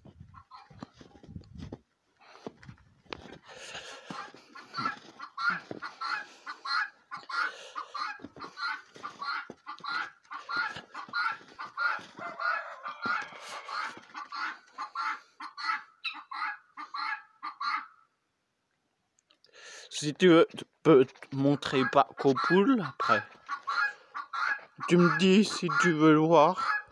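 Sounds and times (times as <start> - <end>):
hens clucking: 0.0 - 1.4, 2.5 - 18.2, 20.0 - 26.9.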